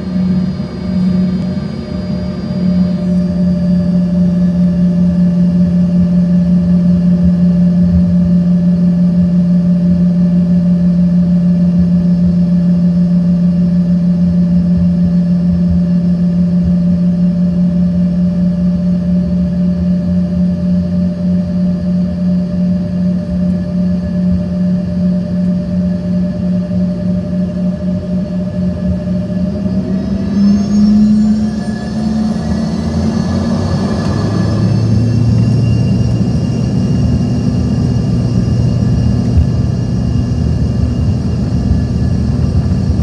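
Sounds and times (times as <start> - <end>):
jet engines hum in cabin: 0.0 - 43.0
low engine rumble: 0.0 - 43.0.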